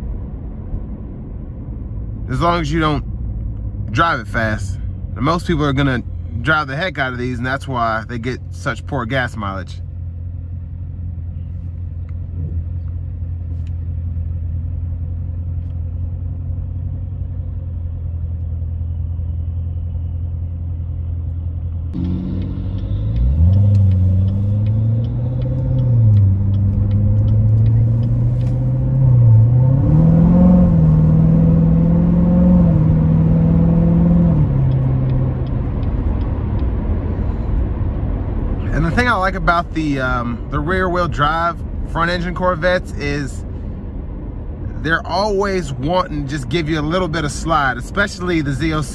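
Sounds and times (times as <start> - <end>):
car engine rumbling and revving: 0.0 - 48.9.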